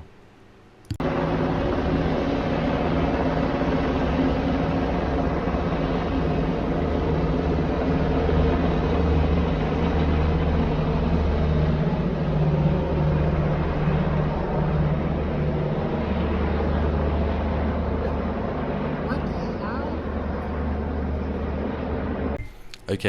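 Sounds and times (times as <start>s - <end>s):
low engine drone: 0.9s - 23.0s.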